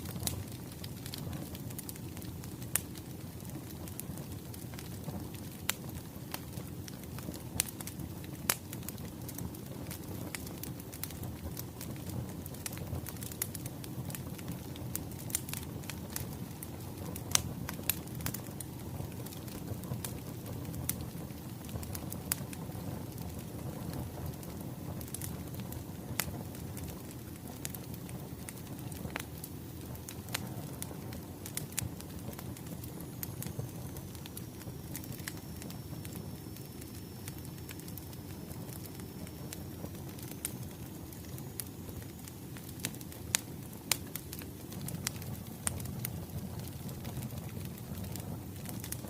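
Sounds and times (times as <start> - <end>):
fire popping and snapping: 0.0 - 49.0
wood fire crackling: 0.0 - 49.0.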